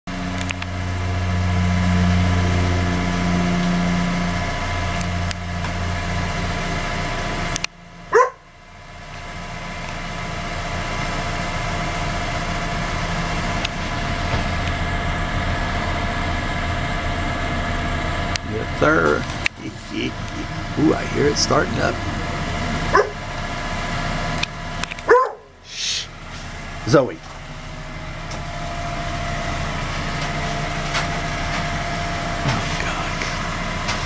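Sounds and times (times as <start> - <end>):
tow truck engine humming: 0.1 - 34.0.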